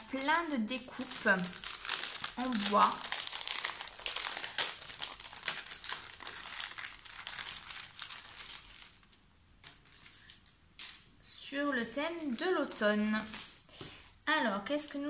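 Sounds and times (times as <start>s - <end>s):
plastic packaging crinkling: 0.0s - 11.2s, 11.8s - 14.2s.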